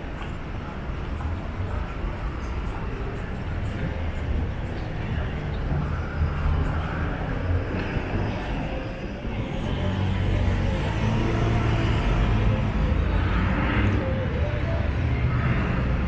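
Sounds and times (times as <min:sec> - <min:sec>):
traffic passing: 0:00.0 - 0:16.0.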